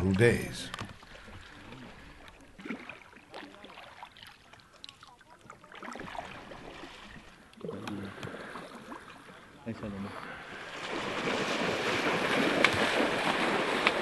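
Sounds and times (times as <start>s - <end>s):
paddles splashing in water: 0.0s - 14.0s.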